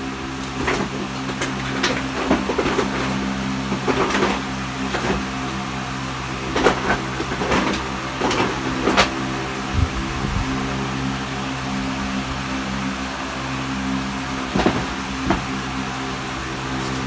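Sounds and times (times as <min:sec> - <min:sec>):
electrical hum with buzz: 0:00.0 - 0:17.0.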